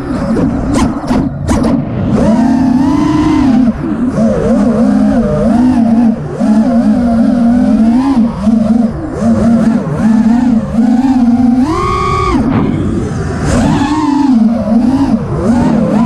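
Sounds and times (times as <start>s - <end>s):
quadcopter motors buzzing whine: 0.0s - 16.0s.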